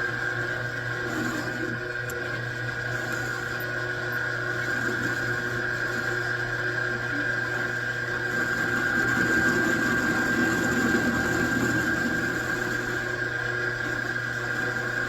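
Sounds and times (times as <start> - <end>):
machine tool motor hum and whine: 0.0 - 15.0.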